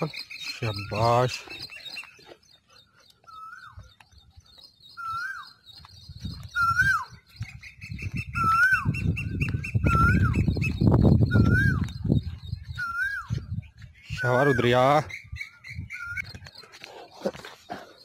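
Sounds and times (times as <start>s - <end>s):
high bird chirps: 0.0s - 18.0s.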